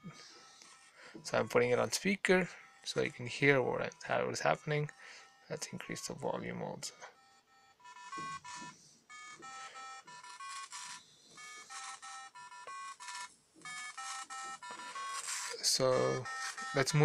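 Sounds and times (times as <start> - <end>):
electronic melody beeps: 0.0 - 17.0.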